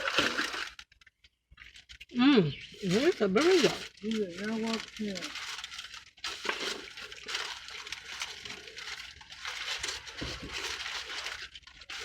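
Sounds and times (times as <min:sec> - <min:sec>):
crackly clicks: 0:00.0 - 0:02.2, 0:03.1 - 0:12.0.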